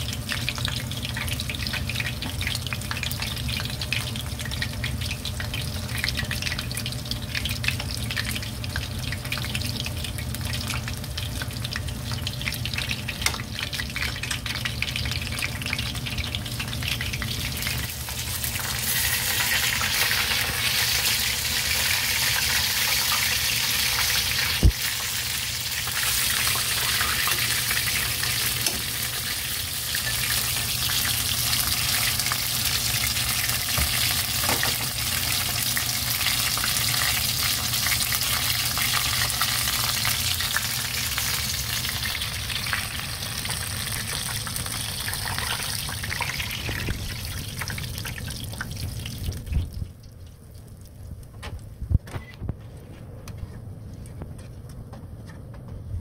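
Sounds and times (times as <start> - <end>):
fish deep-frying in oil: 0.0 - 52.4.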